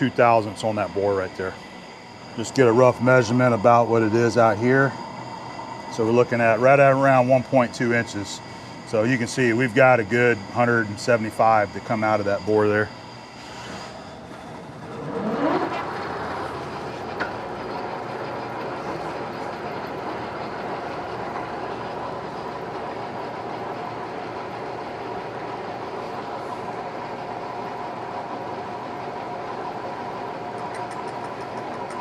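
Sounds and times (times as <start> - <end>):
lathe humming and whining: 0.0 - 32.0.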